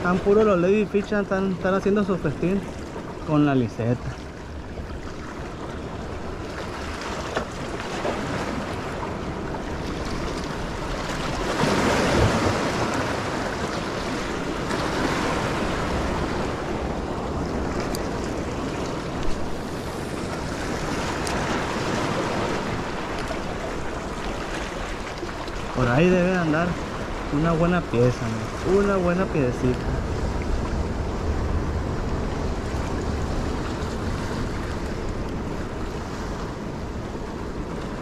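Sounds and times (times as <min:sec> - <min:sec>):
waves splashing over rocks: 0:00.0 - 0:38.0
wind buffeting microphone: 0:04.6 - 0:38.0.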